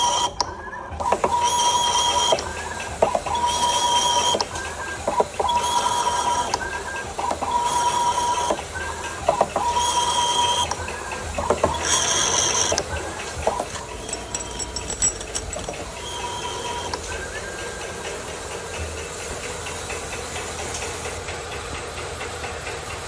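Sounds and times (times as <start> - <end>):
stepper motors whining: 0.0 - 21.2.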